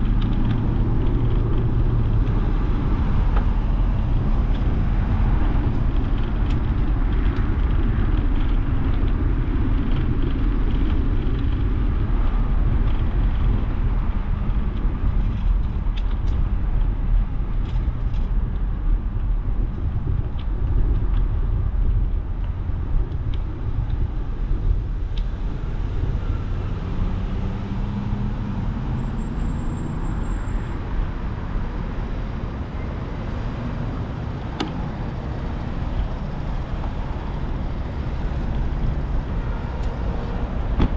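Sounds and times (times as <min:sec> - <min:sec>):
cars passing: 0:00.0 - 0:19.9, 0:22.3 - 0:40.9
vehicle engine hum: 0:00.0 - 0:40.9
wind noise: 0:00.0 - 0:40.9.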